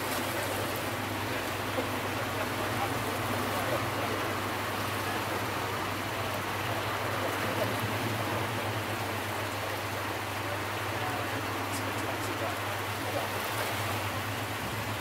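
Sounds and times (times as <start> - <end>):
choppy sea water: 0.0 - 15.0.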